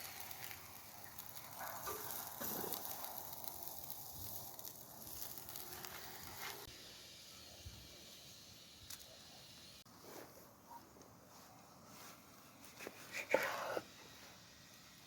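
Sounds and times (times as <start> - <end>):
meat sizzling over fire: 0.0 - 10.2, 12.0 - 15.0.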